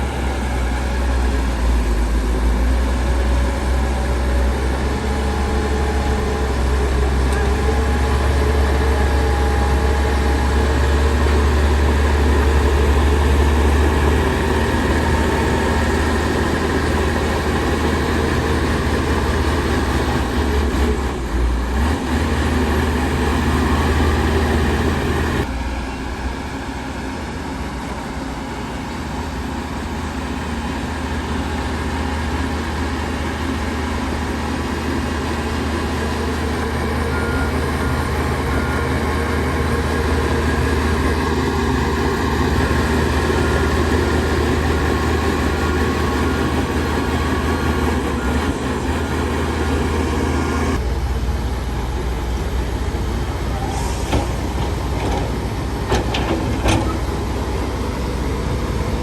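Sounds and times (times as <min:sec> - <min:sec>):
heavy diesel machinery rumbling: 0:00.0 - 0:59.0.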